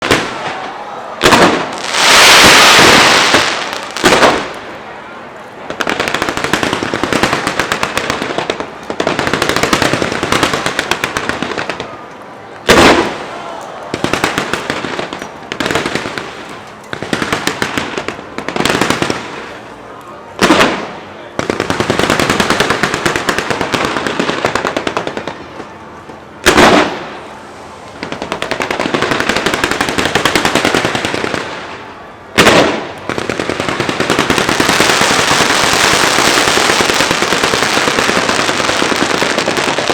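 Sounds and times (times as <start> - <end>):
loud firework bangs: 0.0 - 4.9, 5.6 - 12.0, 12.6 - 19.6, 20.4 - 25.4, 26.4 - 27.2, 28.0 - 39.9
fireworks crackling: 0.0 - 39.9.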